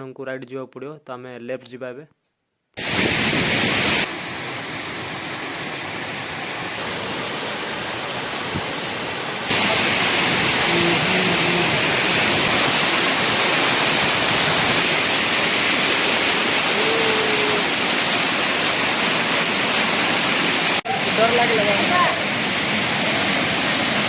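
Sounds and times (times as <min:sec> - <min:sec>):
waterfall rushing: 0:02.8 - 0:24.0.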